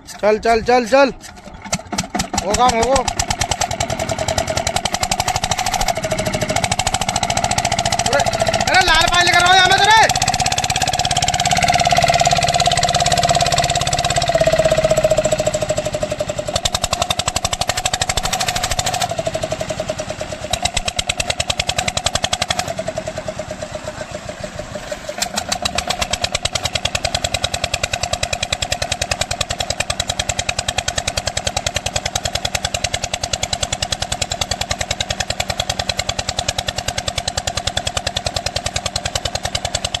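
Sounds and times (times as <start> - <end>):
diesel engine exhaust beats: 0.0 - 40.0.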